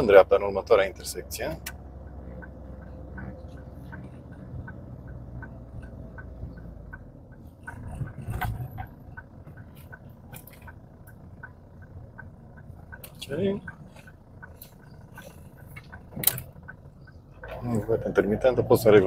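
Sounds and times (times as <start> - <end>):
car engine and road noise: 0.0 - 19.0
rumble and knock: 0.0 - 19.0
turn signal clicking: 0.0 - 19.0.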